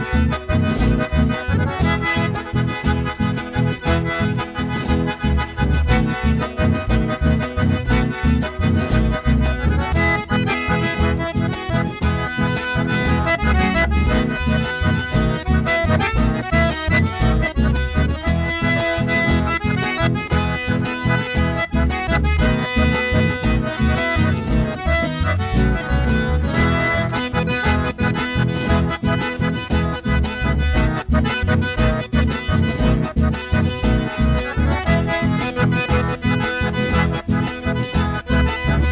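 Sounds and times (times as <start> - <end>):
accordion melody: 0.0 - 38.9
electric bass line: 0.0 - 38.9.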